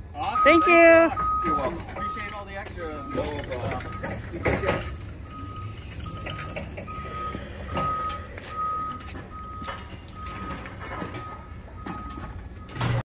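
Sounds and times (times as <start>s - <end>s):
vehicle reversing alarm beeping: 0.2s - 13.0s.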